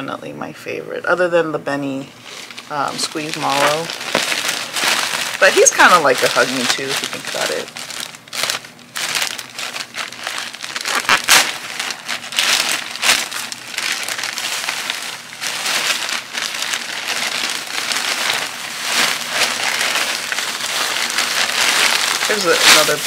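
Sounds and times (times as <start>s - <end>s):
plastic bag crinkling: 2.2s - 23.0s.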